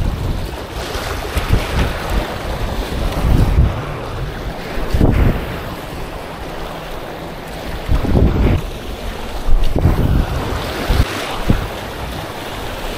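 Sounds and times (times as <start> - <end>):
waves washing on beach: 0.0 - 12.9
wind buffeting microphone: 0.0 - 12.9.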